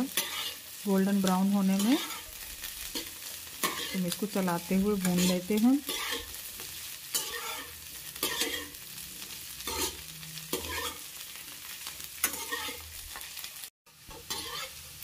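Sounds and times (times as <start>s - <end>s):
metal spatula scraping pan: 0.0s - 0.8s, 1.6s - 13.3s, 14.1s - 15.0s
vegetables sizzling in oil: 0.0s - 15.0s.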